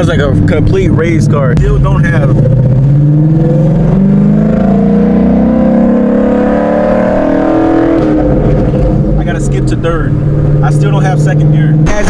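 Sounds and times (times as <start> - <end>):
car exhaust accelerating: 0.0 - 12.0.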